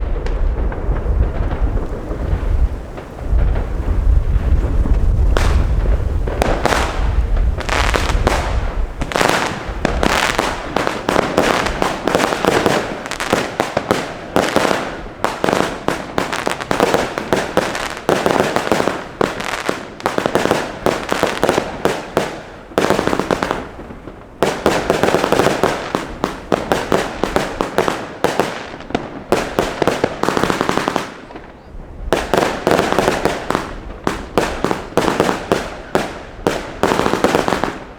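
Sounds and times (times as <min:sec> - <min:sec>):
fireworks firing rapidly: 0:00.0 - 0:37.9.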